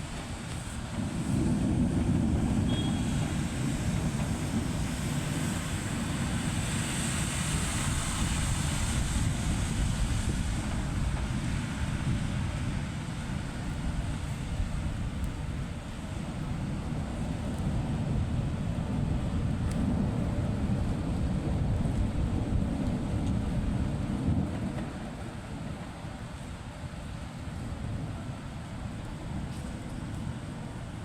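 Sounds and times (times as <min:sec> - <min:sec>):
rain: 0:00.0 - 0:31.0
wind buffeting microphone: 0:00.0 - 0:31.0.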